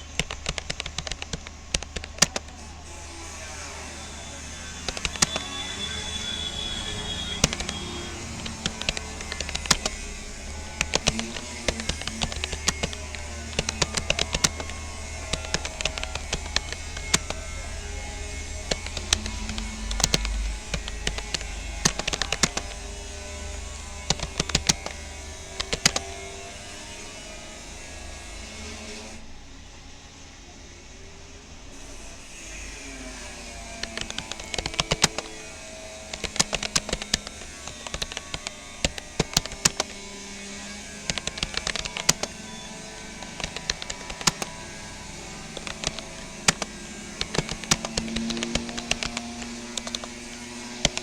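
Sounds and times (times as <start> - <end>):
keyboard typing clicks: 0.1 - 2.7, 3.4 - 26.6, 33.7 - 51.0.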